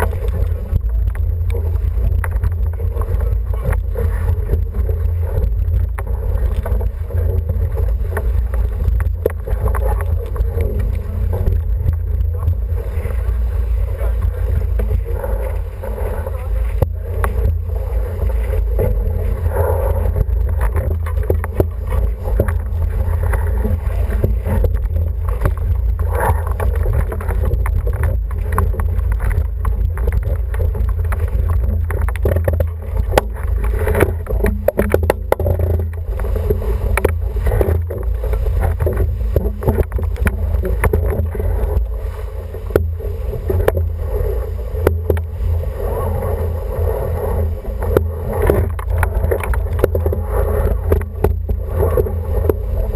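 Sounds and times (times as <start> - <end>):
water rushing along hull: 0.0 - 52.9
wind rumbling on microphone: 0.0 - 52.9.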